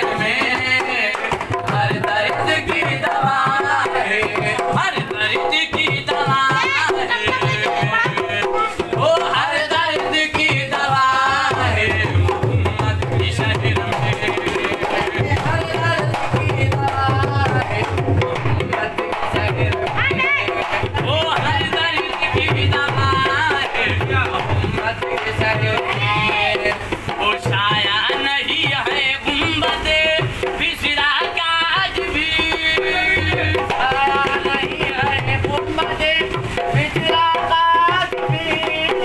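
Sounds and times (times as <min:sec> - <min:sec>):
hand drums beating fast rhythm: 0:00.0 - 0:39.0.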